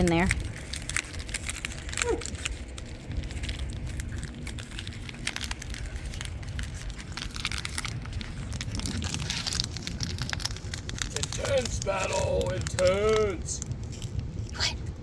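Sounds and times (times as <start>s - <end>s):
dogs chewing a toy: 0.0s - 15.0s
low rumble: 0.0s - 15.0s.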